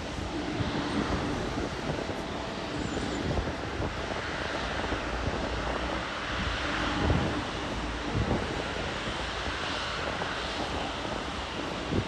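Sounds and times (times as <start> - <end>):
jet engines running: 0.0 - 12.0
wind buffeting microphone: 0.0 - 12.0.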